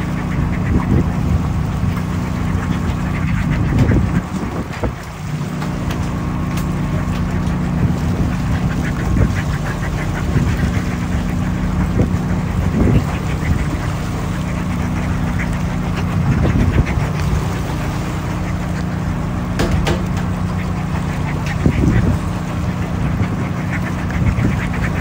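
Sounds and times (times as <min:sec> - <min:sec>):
boat engine idling: 0:00.0 - 0:25.0
seabirds calling: 0:00.0 - 0:25.0.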